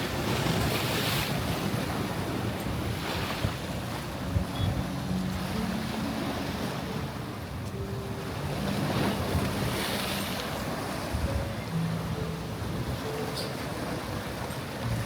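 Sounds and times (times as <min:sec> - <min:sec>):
waves washing onto beach: 0:00.0 - 0:15.0.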